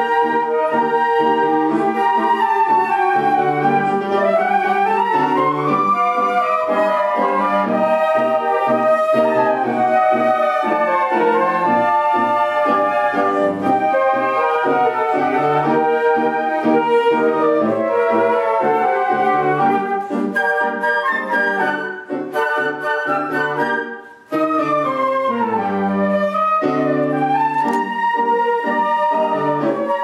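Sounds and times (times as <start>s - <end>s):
flute ensemble playing a tango: 0.0s - 30.0s.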